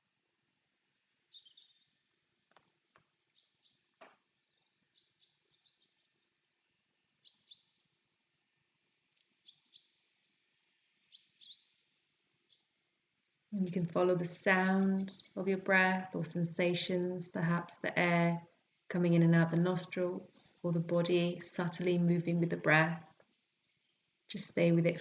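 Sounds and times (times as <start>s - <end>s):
small birds chirping: 0.6s - 25.0s.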